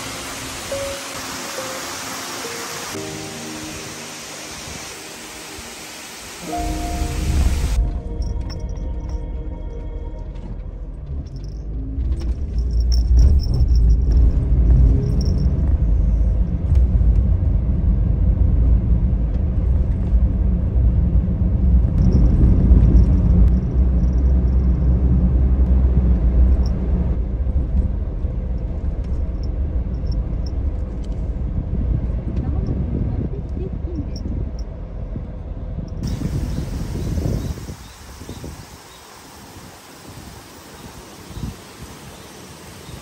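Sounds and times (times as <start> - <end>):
road noise: 0.0 - 43.0
van engine rumble: 7.3 - 43.0.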